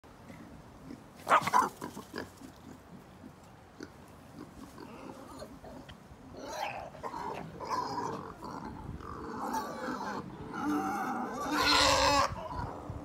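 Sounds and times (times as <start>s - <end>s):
wild boar call: 0.9s - 13.0s.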